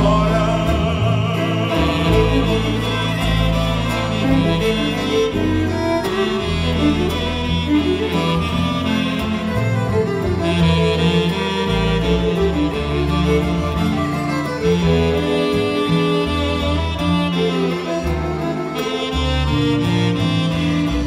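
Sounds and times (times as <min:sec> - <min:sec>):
small live ensemble playing: 0:00.0 - 0:21.0
sustained bass notes: 0:00.0 - 0:21.0.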